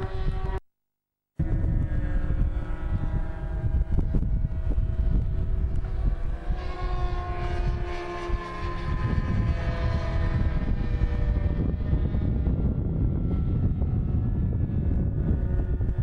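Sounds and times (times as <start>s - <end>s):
propeller plane droning overhead: 0.0s - 0.6s, 1.4s - 16.0s
wind rumble on microphone: 0.0s - 0.6s, 1.4s - 16.0s.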